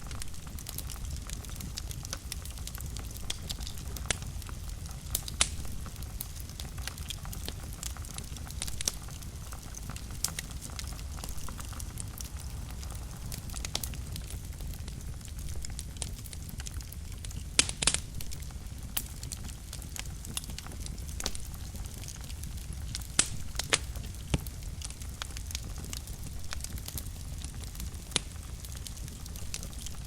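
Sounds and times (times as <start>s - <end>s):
fire crackling in fireplace: 0.0s - 30.0s.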